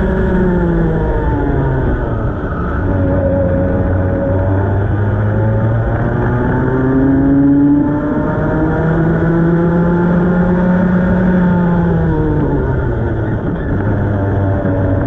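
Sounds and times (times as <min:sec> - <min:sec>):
kart engine at full throttle: 0:00.0 - 0:15.0.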